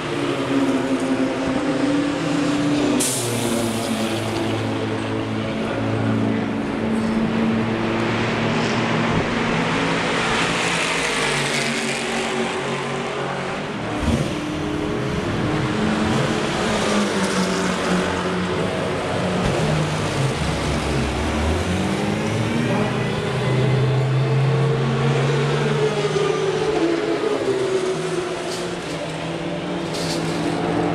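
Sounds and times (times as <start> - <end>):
racing car engines revving: 0.0 - 30.9.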